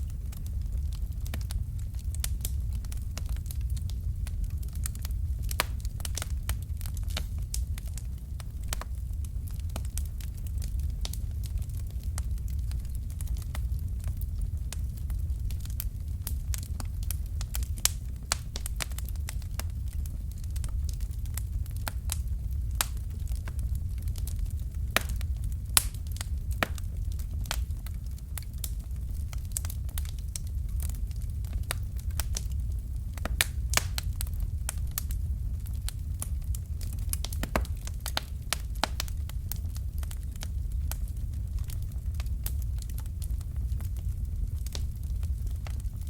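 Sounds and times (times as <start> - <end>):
low rumble of flames: 0.0 - 46.0
wood fire crackling and popping: 0.0 - 46.0.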